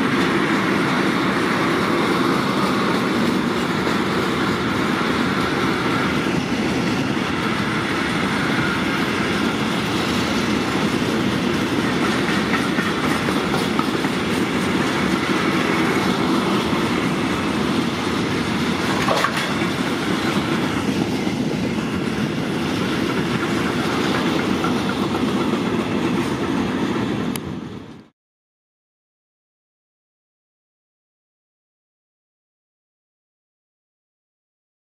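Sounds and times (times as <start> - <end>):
freight train wheels rumbling: 0.0 - 28.1.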